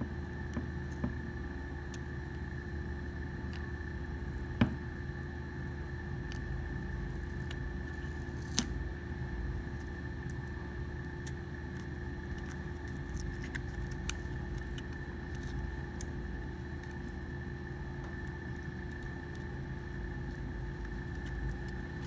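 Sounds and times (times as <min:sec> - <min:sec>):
electrical hum with high tone: 0:00.0 - 0:22.0.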